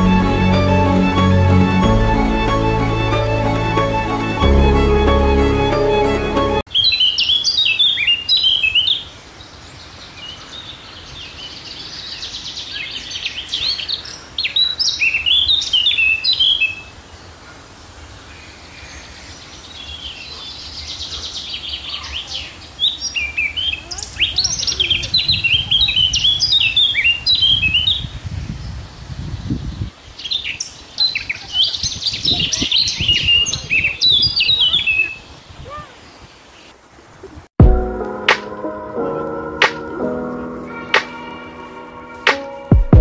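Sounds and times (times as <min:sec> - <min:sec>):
songbird singing: 0:05.6 - 0:43.0.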